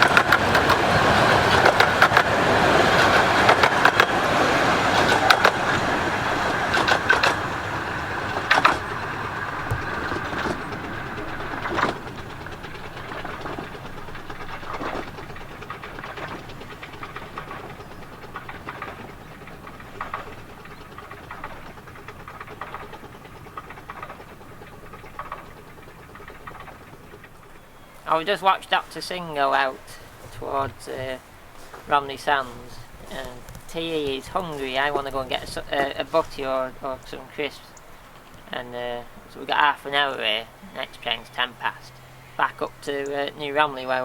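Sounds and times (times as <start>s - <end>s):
sharp clicks and knocks: 0.0s - 38.6s
steam train pulling away: 0.0s - 44.0s.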